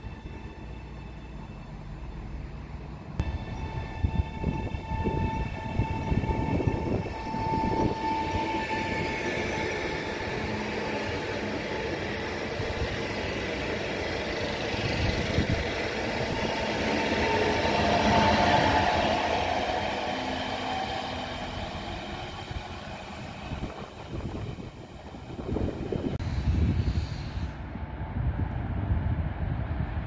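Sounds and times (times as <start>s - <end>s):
electric train drive whine: 0.0s - 26.8s
rumble of wheels on rail: 0.0s - 30.0s.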